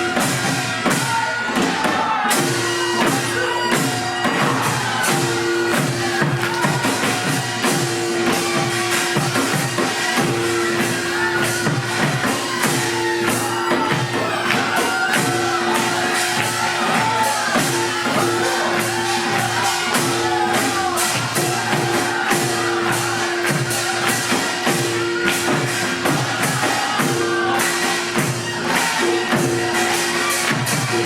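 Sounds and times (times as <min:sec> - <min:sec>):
rapid percussion strikes: 0:00.0 - 0:31.0.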